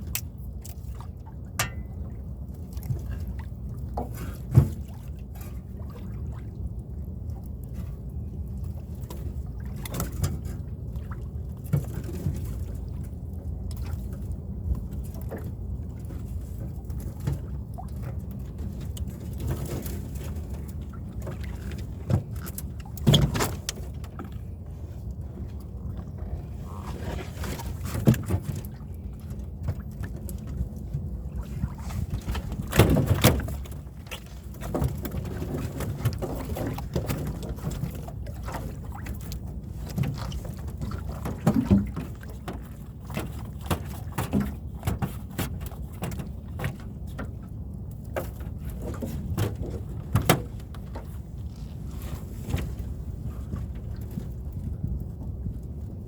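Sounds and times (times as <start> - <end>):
steady low rumble: 0.0 - 23.0, 23.6 - 56.0
knocks and clatter in boat: 0.0 - 56.0.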